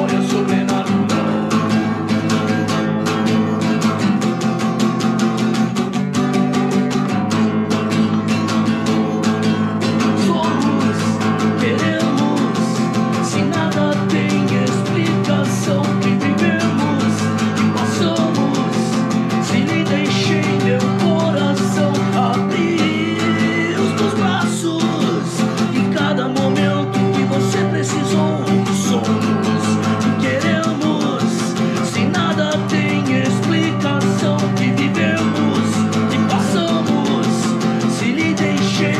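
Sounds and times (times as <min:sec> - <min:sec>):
man singing: 0:00.0 - 0:05.8, 0:08.1 - 0:38.9
acoustic guitar strumming: 0:00.0 - 0:38.9.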